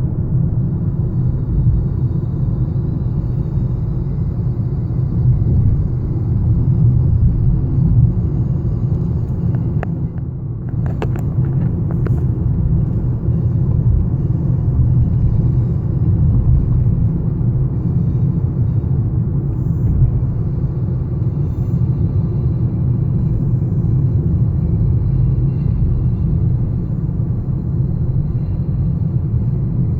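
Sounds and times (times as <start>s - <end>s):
road and tyre noise: 0.0s - 29.9s.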